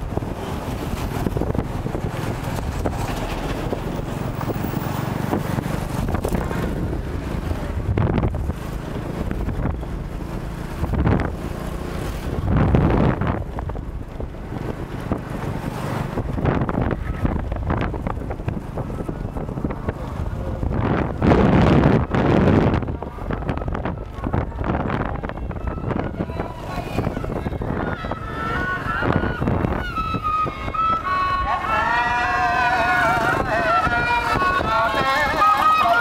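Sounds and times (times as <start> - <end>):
vehicle and road noise: 0.0 - 36.0
wind buffeting microphone: 0.0 - 36.0.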